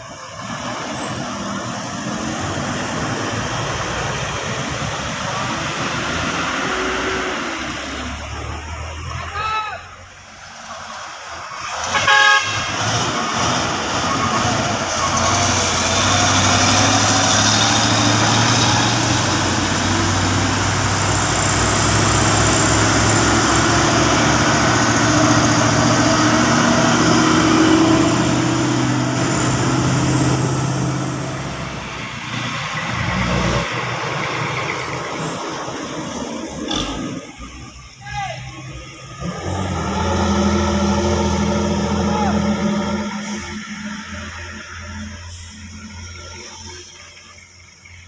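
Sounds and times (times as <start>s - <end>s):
diesel trucks passing: 0.0s - 48.0s.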